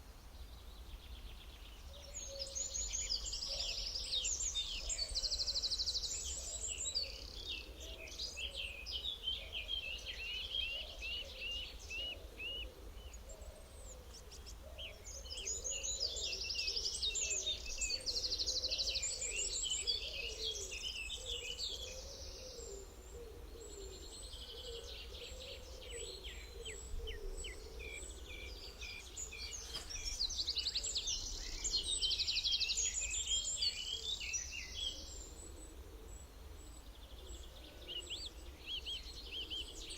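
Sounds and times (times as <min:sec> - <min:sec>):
birds chirping and trilling: 0:00.5 - 0:39.9.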